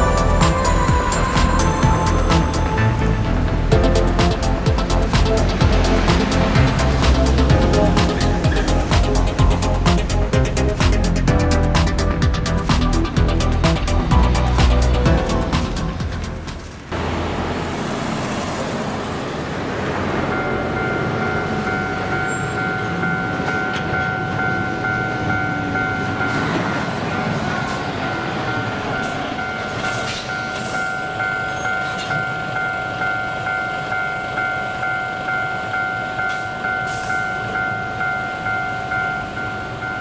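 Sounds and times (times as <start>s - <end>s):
level crossing warning bell: 0.0s - 16.7s, 20.2s - 40.0s
road traffic: 0.0s - 40.0s.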